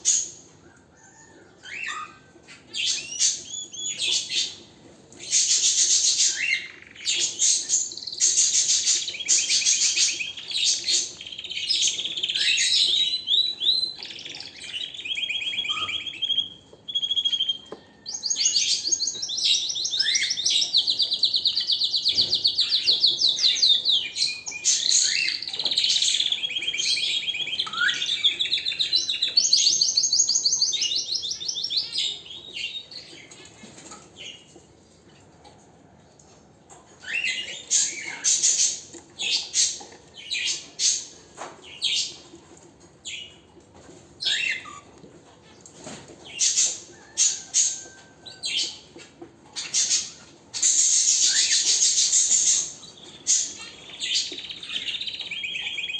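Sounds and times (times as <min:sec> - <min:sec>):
canary singing trills: 0:00.0 - 0:34.6, 0:36.9 - 0:55.9.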